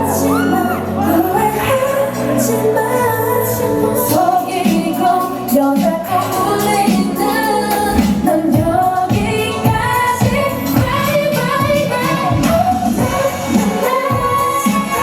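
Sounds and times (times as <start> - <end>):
pop song with female group vocals: 0.0 - 15.0.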